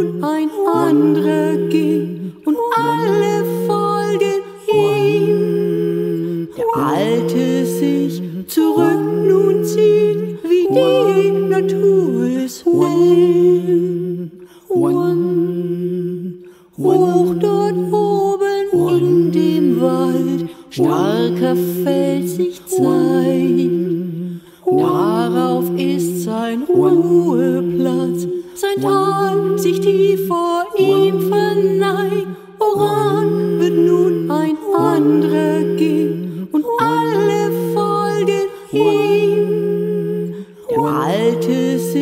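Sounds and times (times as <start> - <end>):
layered a cappella singing: 0.0 - 42.0.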